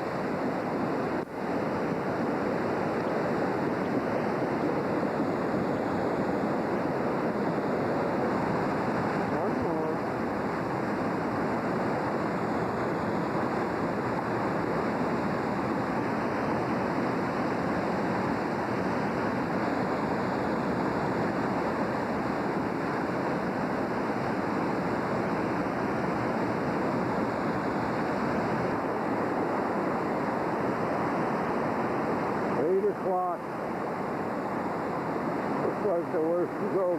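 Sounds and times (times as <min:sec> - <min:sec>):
river water rushing: 0:00.0 - 0:36.9.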